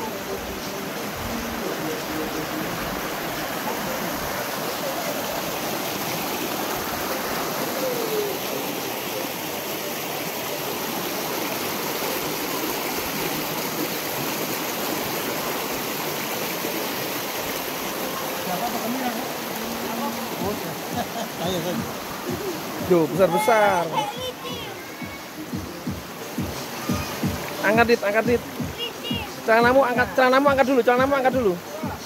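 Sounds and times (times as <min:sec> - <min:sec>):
river rushing over stones: 0:00.0 - 0:32.0.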